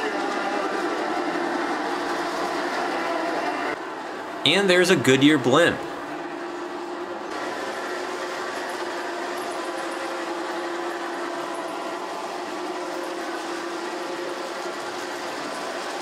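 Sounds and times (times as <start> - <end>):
model train running on track: 0.0 - 5.5, 6.1 - 16.0.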